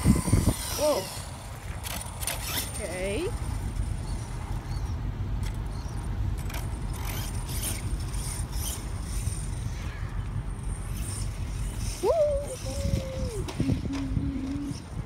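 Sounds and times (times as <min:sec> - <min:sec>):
scraping bursts: 0:00.0 - 0:14.8
toy truck motor rumble: 0:00.0 - 0:15.0.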